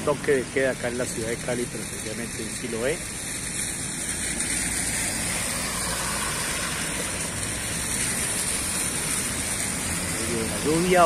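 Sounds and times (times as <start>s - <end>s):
cars passing: 0.0s - 11.0s
steady rain: 0.0s - 11.0s
wet tyre noise: 0.0s - 11.0s.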